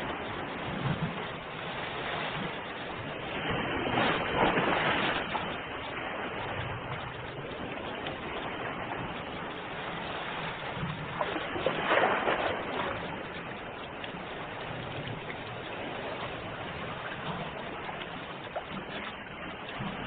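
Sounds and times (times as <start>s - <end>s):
ocean surf washing: 0.0s - 20.0s
wave breaking: 0.0s - 20.0s.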